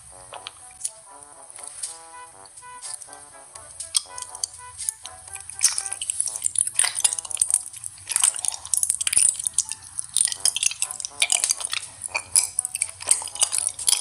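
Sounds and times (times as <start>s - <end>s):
crunching and wet chewing: 0.0s - 14.0s.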